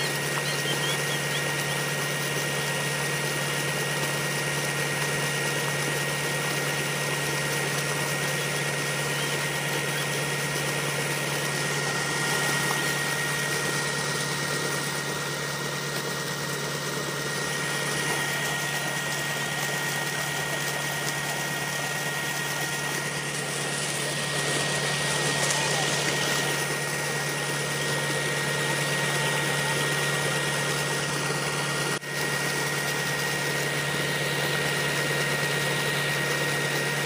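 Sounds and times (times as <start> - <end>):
tractor engine humming with whine: 0.0 - 37.0
water gushing from pipe: 0.0 - 37.0.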